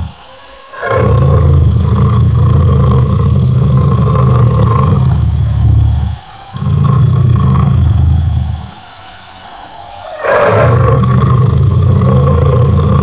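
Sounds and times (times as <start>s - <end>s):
lion roaring: 0.0s - 8.8s, 10.0s - 13.0s.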